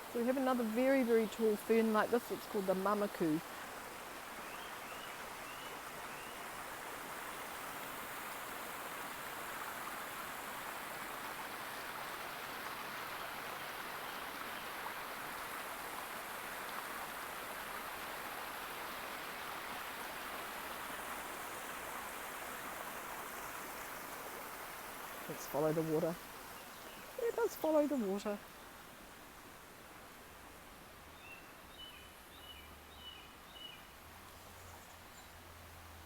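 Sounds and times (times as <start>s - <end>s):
creek flowing water: 0.0s - 36.0s.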